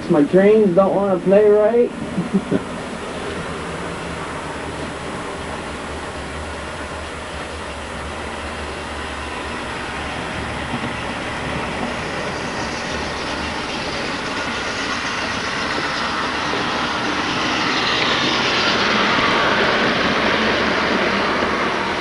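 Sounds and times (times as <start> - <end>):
model train rolling on track: 0.0 - 22.0.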